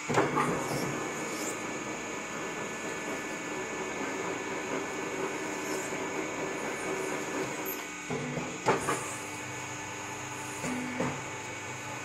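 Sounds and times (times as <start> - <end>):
tyre changer machine running: 0.0 - 12.0.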